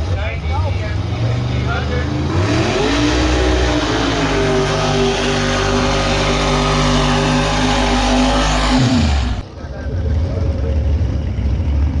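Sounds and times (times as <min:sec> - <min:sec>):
vehicle engine at high revs: 0:00.0 - 0:12.0.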